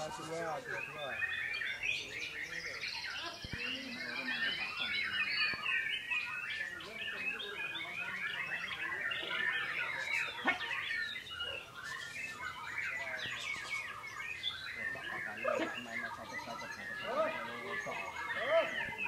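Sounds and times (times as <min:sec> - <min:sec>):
bird song: 0:00.0 - 0:19.0.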